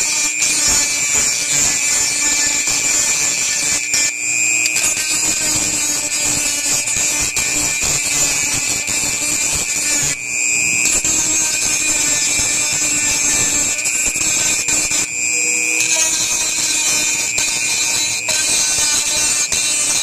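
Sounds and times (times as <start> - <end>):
rotary tool grinding: 0.0 - 20.0.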